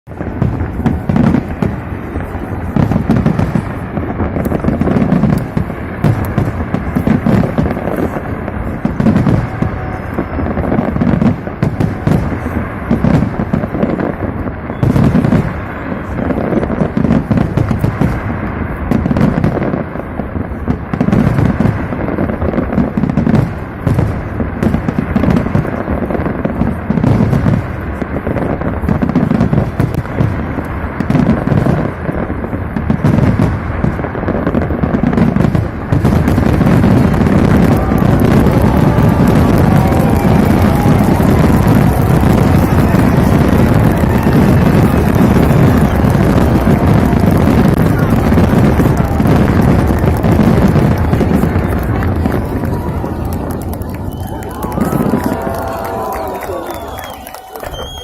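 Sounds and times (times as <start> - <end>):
fireworks booming: 0.0 - 58.0
fireworks cracking: 0.0 - 58.0.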